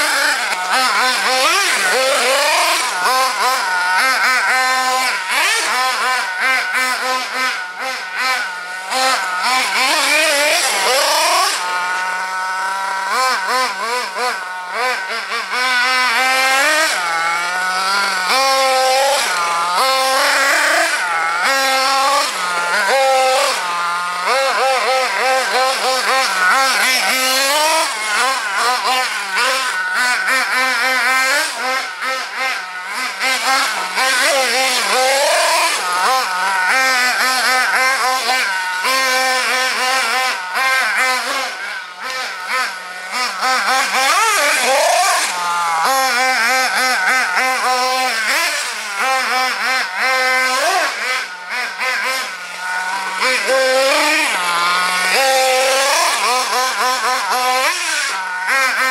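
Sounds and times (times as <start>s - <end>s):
small two-stroke engine revving: 0.0s - 58.9s.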